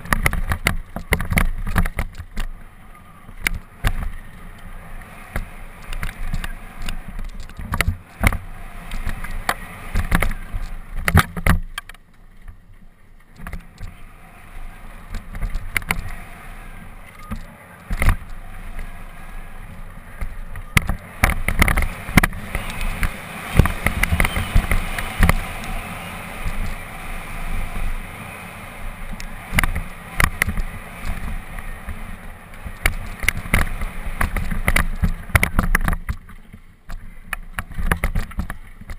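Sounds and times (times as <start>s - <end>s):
steady low rumble: 0.0s - 38.6s
bike frame rattling over bumps: 0.0s - 38.9s.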